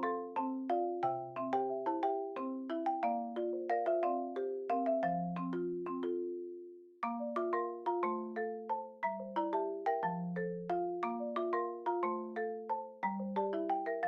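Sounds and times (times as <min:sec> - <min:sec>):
mallet percussion melody: 0:00.0 - 0:14.0.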